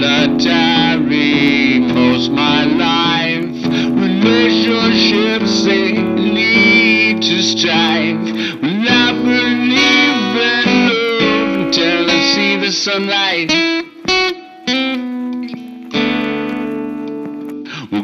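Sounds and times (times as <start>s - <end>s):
bending lead guitar line: 0.0s - 18.0s
guitar band song: 0.0s - 18.0s.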